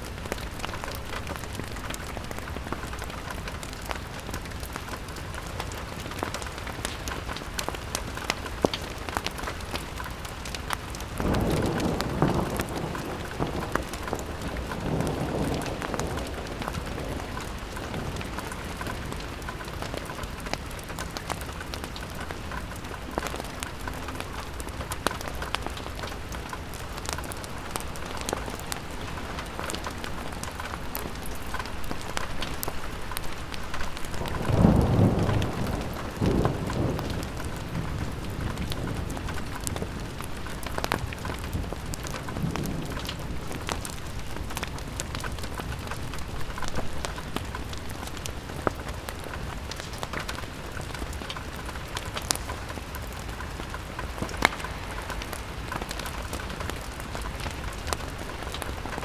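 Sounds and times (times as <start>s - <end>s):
rain pattering on window glass: 0.0s - 59.0s.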